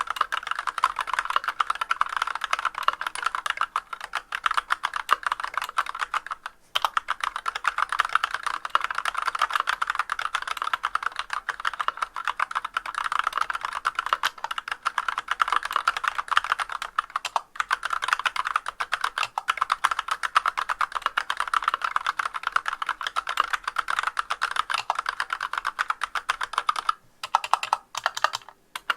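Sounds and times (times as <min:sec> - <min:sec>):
fast mechanical keyboard typing: 0:00.0 - 0:28.9.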